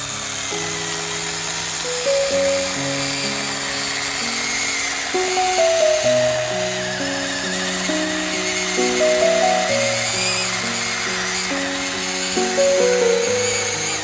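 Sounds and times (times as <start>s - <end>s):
power tool whine: 0.0s - 14.0s.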